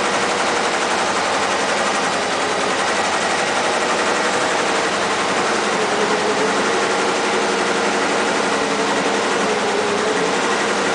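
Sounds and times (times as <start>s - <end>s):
embroidery machine stitching: 0.0s - 10.9s.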